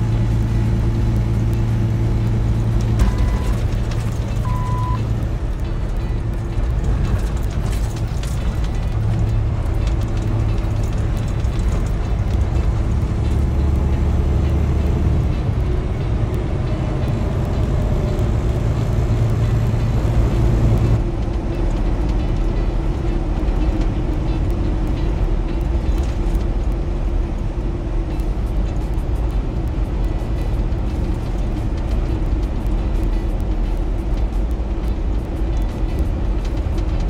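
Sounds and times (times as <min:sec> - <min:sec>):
truck engine and road noise: 0:00.0 - 0:37.0.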